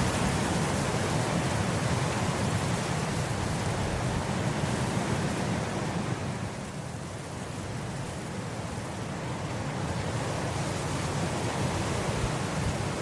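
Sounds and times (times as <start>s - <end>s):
wind blowing across grass: 0.0s - 13.0s.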